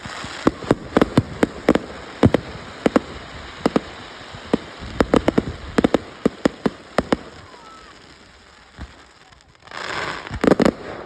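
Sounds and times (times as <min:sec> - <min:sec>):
fireworks bangs: 0:00.0 - 0:11.0
steady hiss: 0:00.0 - 0:11.0.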